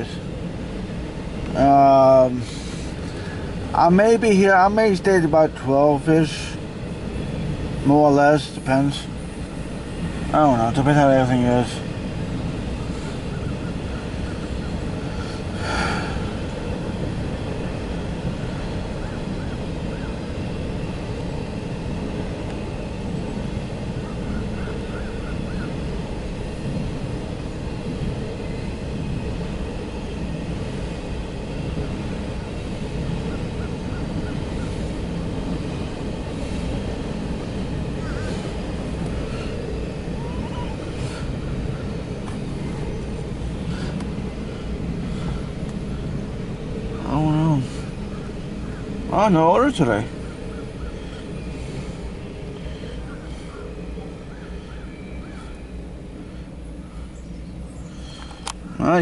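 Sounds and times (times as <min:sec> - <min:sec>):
train clatter: 0:00.0 - 0:59.0
train wheels rumbling on rails: 0:00.0 - 0:59.0.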